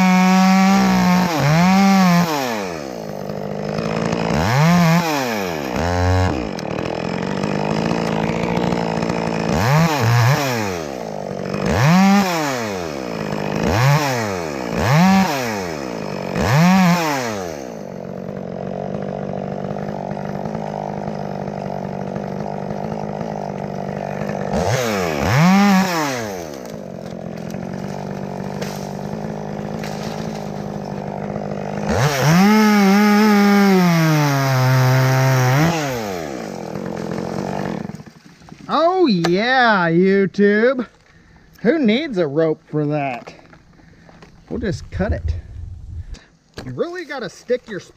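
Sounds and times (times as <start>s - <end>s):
chainsaw revving: 0.0s - 42.0s, 43.1s - 47.9s.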